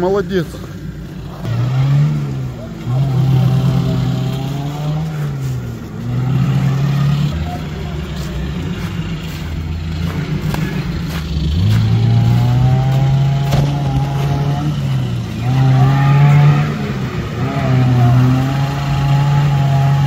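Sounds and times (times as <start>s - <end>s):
car engine revving hard: 1.2s - 20.0s.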